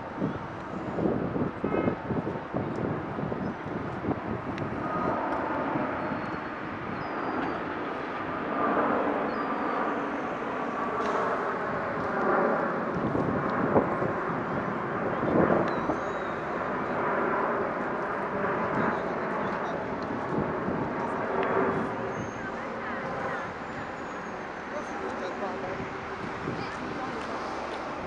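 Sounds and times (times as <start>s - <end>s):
jet airliner engines overhead: 0.0s - 28.0s.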